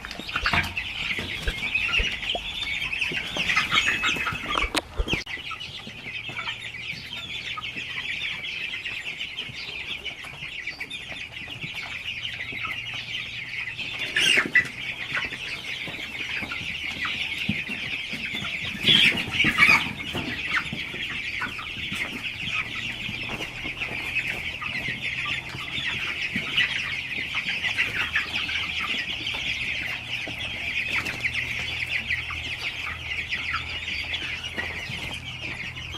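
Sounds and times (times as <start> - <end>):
chickens clucking: 0.0 - 35.9.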